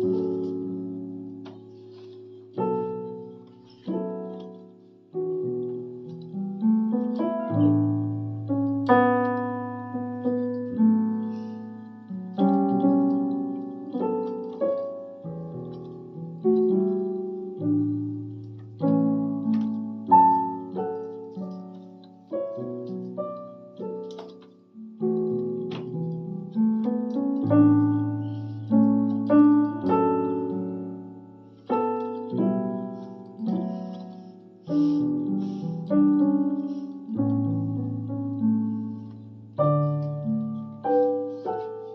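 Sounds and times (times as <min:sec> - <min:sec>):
electronic keyboard piano melody: 0:00.0 - 0:41.9.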